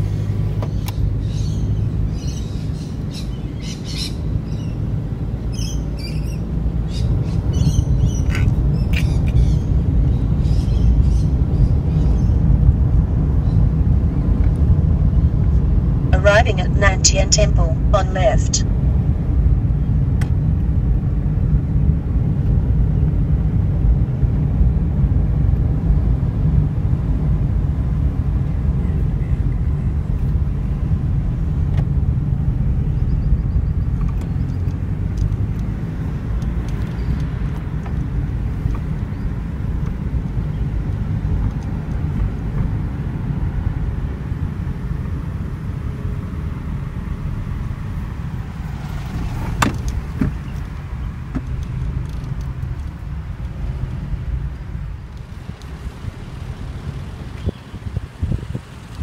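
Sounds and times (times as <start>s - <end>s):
car cabin road and engine rumble: 0.0s - 59.0s.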